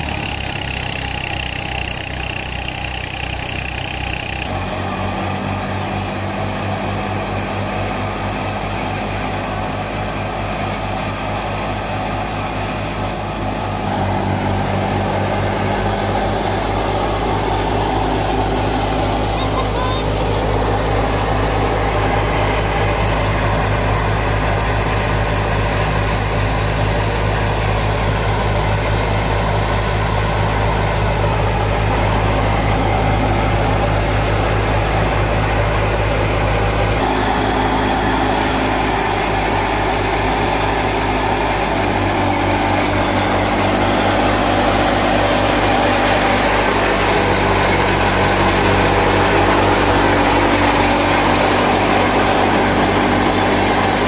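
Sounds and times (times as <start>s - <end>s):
thresher machinery noise: 0.0s - 54.0s
tractor diesel engine running: 0.0s - 54.0s.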